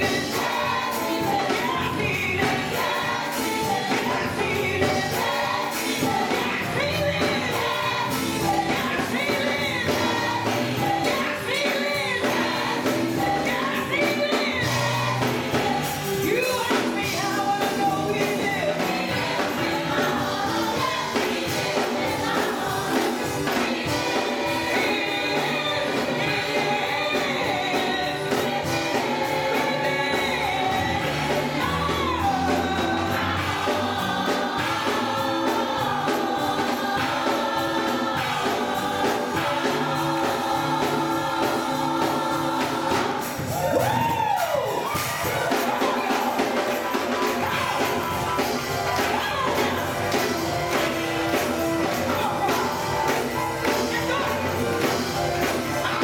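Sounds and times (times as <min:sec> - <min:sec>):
gospel choir singing: 0:00.0 - 0:56.0.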